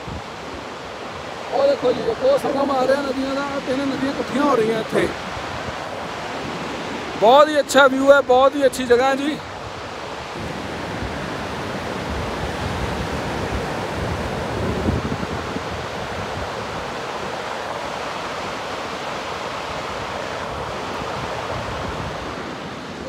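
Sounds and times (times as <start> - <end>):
river rushing: 0.0 - 23.0
wind buffeting microphone: 0.0 - 23.0.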